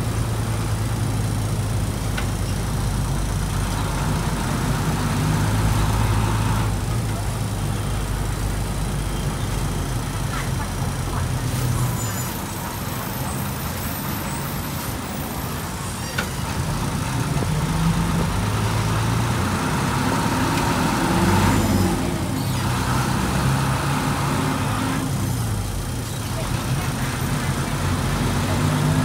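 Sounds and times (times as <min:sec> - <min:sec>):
bus engine: 0:00.0 - 0:29.0
road and traffic noise: 0:00.0 - 0:29.0.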